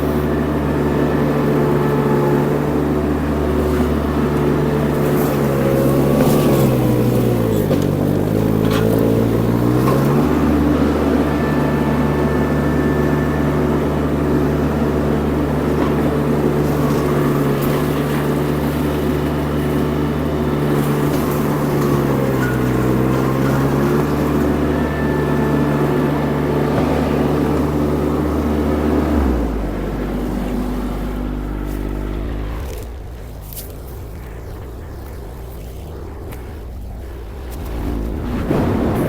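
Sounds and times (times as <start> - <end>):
skid steer engine running hard: 0.0 - 39.0.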